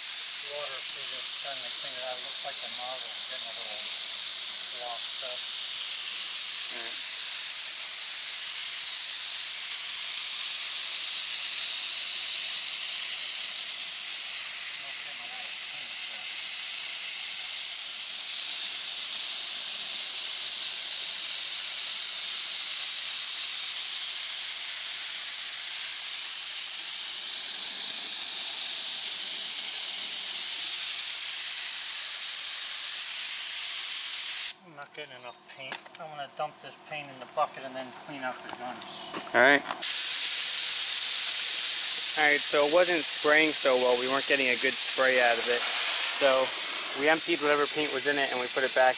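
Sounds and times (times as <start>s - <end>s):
paint spray gun hissing: 0.0s - 34.6s, 39.8s - 48.9s.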